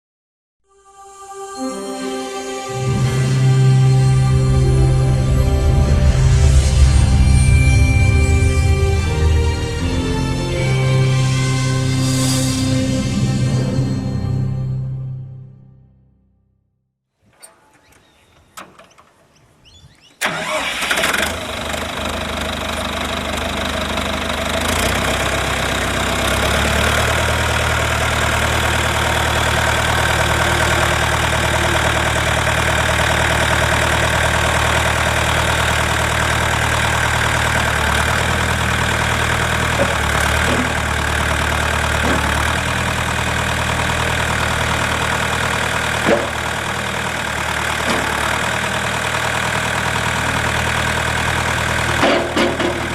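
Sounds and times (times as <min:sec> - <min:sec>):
tractor diesel engine running: 0:02.9 - 0:13.8, 0:17.2 - 0:52.9.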